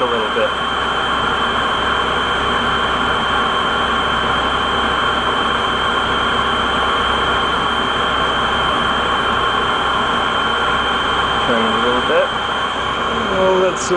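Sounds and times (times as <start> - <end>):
boiler burner rushing: 0.0 - 13.9.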